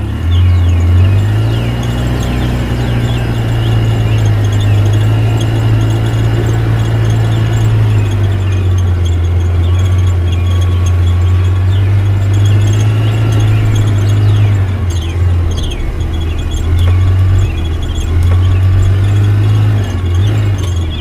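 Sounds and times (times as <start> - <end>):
small motor humming: 0.0 - 21.0
high squeaking from moving parts: 0.2 - 21.0.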